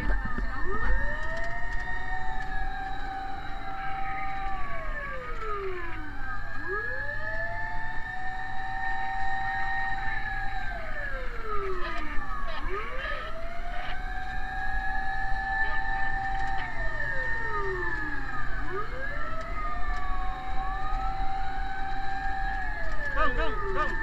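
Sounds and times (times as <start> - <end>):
fire truck sirens wailing: 0.0 - 24.0.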